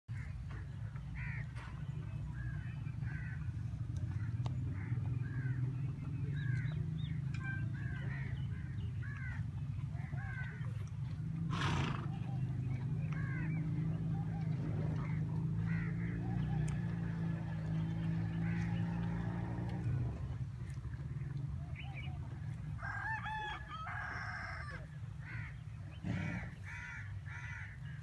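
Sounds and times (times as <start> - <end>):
birds chirping: 0.1 - 28.0.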